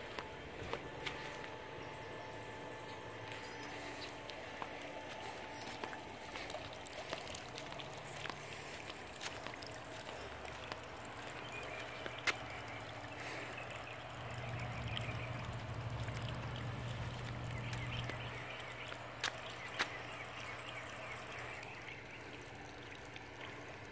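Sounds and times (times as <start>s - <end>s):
low hum: 0.0s - 23.9s
pool water trickling and lapping: 0.0s - 23.9s.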